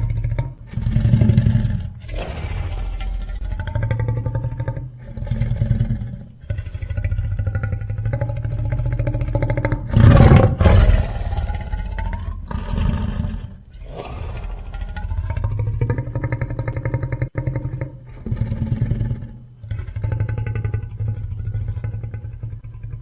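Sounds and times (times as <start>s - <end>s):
deep growling monster roars: 0.0s - 23.0s.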